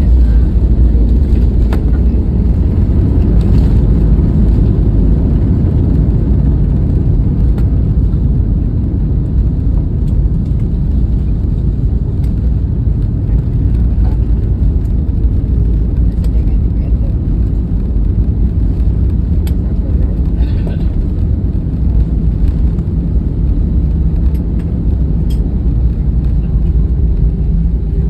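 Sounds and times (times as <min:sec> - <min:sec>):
jet airliner landing rumble: 0:00.0 - 0:28.0.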